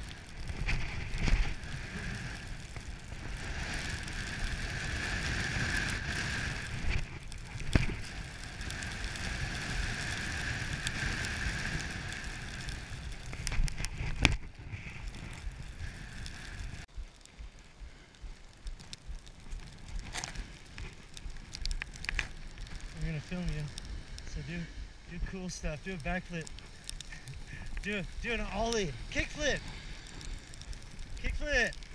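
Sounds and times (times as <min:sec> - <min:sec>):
small scrapes and ticks: 0:00.0 - 0:31.9
snowboard sliding over snow: 0:00.0 - 0:31.9.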